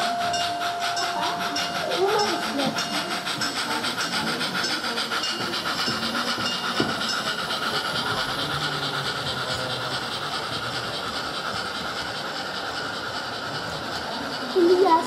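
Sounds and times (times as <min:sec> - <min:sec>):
model steam locomotive chuffing: 0:00.0 - 0:15.0
steam hiss: 0:00.0 - 0:15.0.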